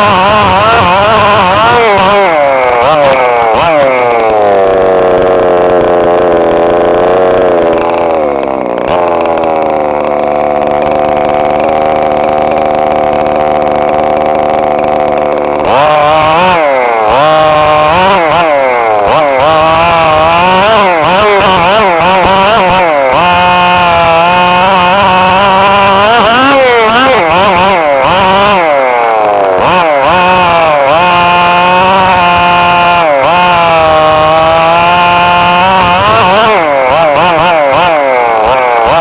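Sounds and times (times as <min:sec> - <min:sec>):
rc car engine revving: 0:00.0 - 0:39.0.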